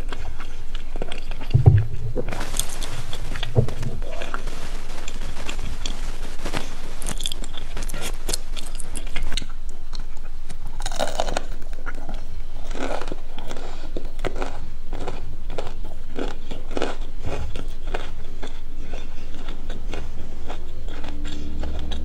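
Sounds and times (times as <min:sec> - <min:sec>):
chewing: 0:00.0 - 0:22.0
crunching fried food: 0:00.0 - 0:22.0.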